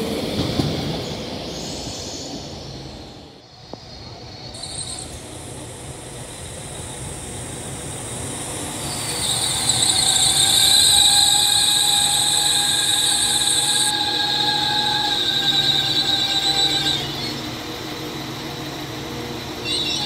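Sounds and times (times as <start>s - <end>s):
train rumbling past: 0.0s - 20.0s
high-pitched whine: 0.9s - 20.0s.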